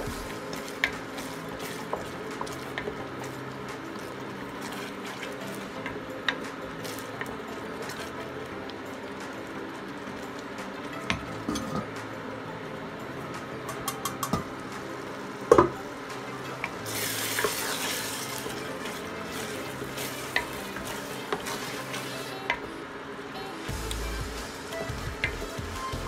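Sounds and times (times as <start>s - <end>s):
sizzling: 0.0s - 26.0s.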